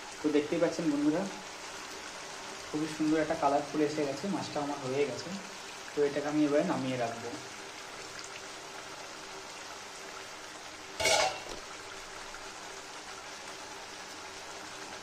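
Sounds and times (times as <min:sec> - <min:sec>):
curry bubbling and sizzling: 0:00.0 - 0:15.0.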